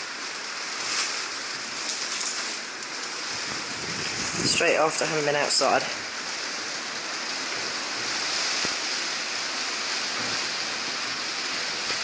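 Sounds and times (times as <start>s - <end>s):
rain on a roof: 0.0s - 12.0s.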